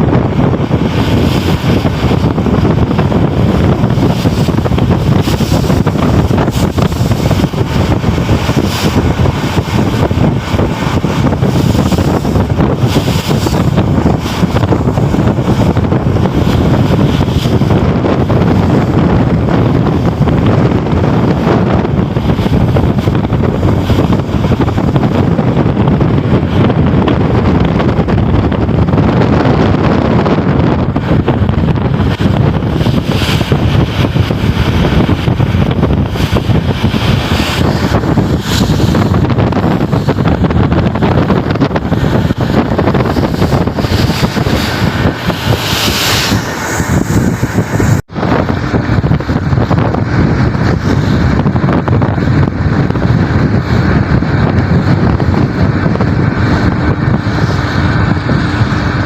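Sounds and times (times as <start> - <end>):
strong wind on microphone: 0.0 - 59.0.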